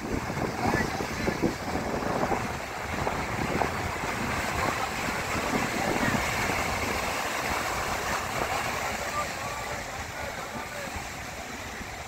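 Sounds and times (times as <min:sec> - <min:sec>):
sea waves breaking: 0:00.0 - 0:12.0
wind gusting on microphone: 0:00.0 - 0:12.0.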